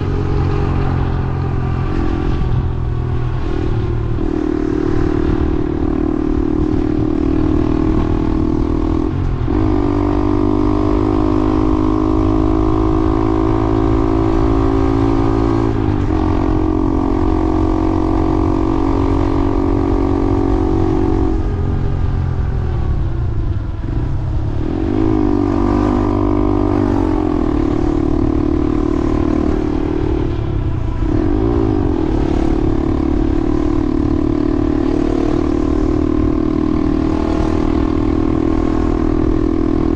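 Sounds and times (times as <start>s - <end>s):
road rumble: 0.0s - 39.9s
vehicle engine running: 0.0s - 39.9s.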